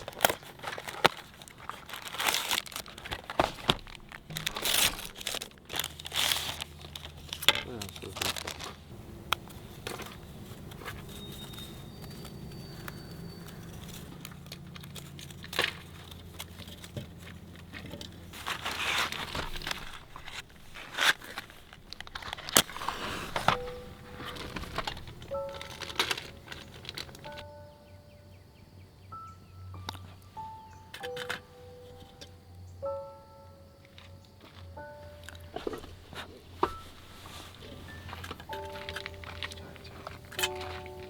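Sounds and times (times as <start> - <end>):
soft background music: 0.0 - 20.4, 22.6 - 41.0
crackling and crinkling: 0.0 - 28.0, 29.2 - 41.0.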